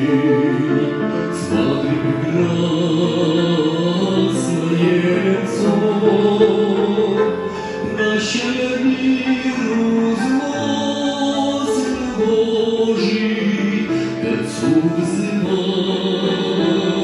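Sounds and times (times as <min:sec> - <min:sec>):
men and women singing a hymn: 0:00.0 - 0:17.0.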